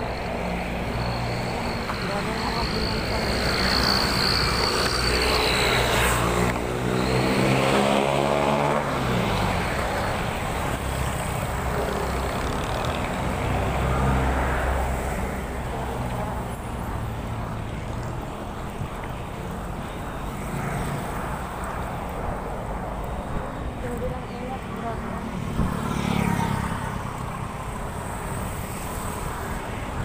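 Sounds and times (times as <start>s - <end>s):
street traffic passing: 0.0s - 30.0s.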